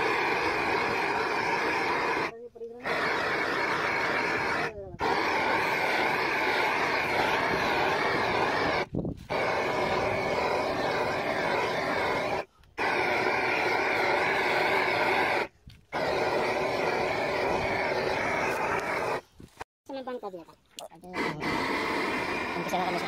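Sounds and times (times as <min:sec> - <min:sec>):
gas torch flame roaring: 0:00.0 - 0:19.2, 0:21.2 - 0:23.0.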